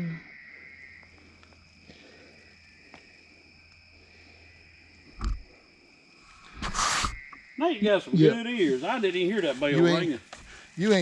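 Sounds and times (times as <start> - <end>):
insects and frogs chorus: 0.0 - 11.0.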